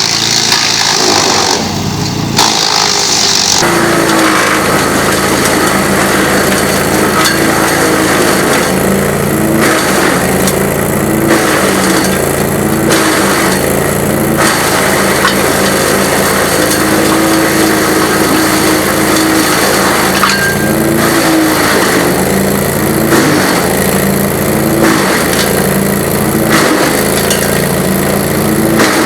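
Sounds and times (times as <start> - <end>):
wood chipper engine hum: 0.0 - 29.0
wood crunching in chipper: 0.0 - 29.0.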